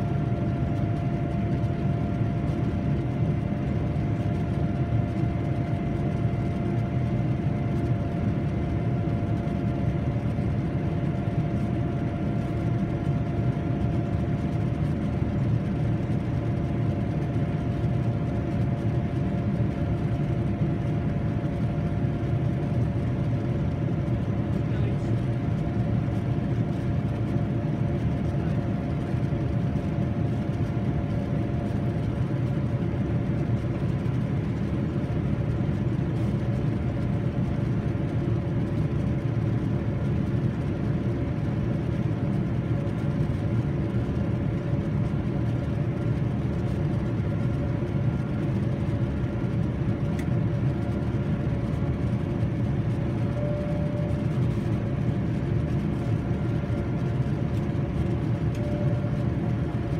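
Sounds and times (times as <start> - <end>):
airplane cabin engine rumble: 0.0 - 59.9
faint steady hum tones: 0.0 - 59.9.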